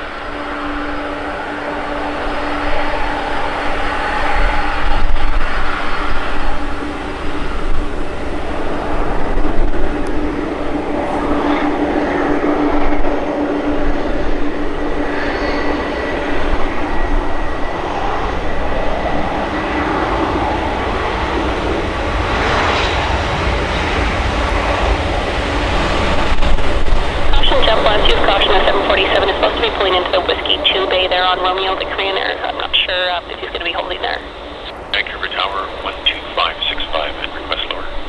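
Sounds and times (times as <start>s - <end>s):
jet engines running: 0.0s - 38.0s.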